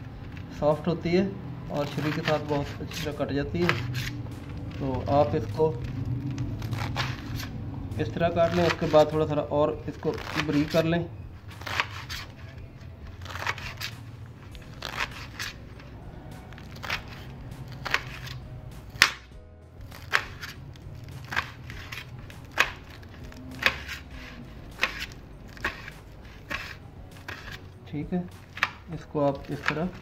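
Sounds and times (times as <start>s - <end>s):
knife chopping leaves: 1.7s - 30.0s.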